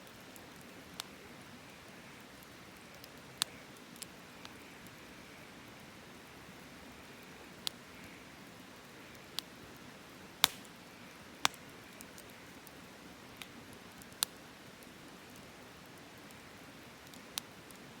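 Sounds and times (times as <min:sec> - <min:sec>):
campfire hissing and crackling: 0:00.0 - 0:18.0.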